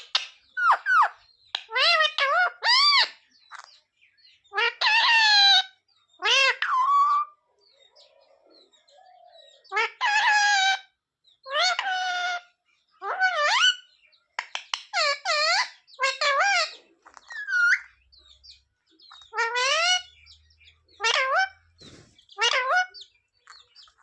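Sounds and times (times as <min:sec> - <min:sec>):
parrot calling: 0:00.0 - 0:03.8, 0:04.5 - 0:07.4, 0:09.5 - 0:24.0.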